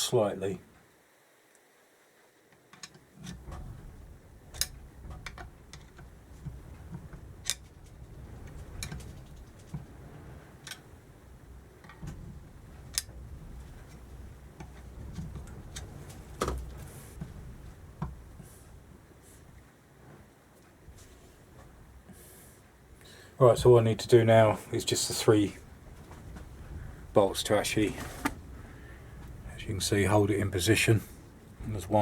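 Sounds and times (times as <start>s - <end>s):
low rustle of handling: 3.2s - 32.0s.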